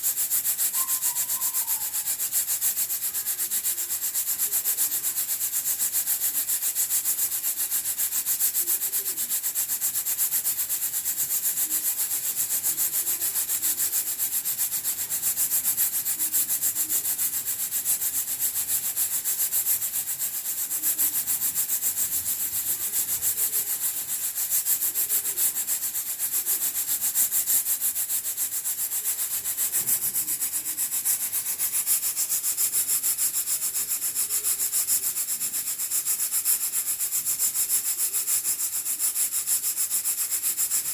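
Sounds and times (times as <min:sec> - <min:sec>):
pressure cooker steam hissing: 0:00.0 - 0:40.9.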